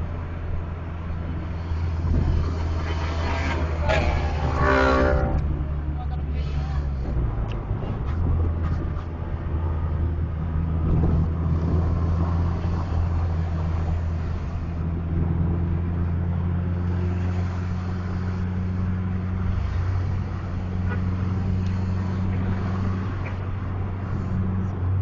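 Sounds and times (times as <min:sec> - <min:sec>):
bus engine droning: 0:00.0 - 0:25.0
road noise: 0:00.0 - 0:25.0.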